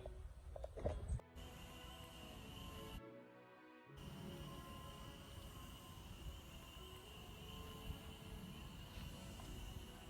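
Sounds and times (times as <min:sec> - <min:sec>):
quiet music of held tones: 0:00.0 - 0:10.0.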